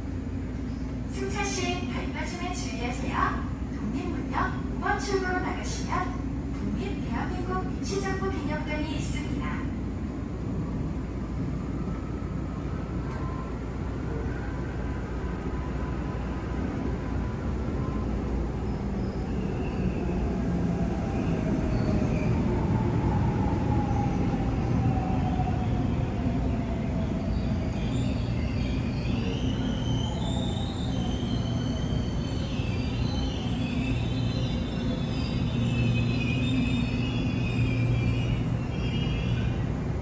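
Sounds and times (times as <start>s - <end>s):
electric train rumble: 0.0s - 40.0s.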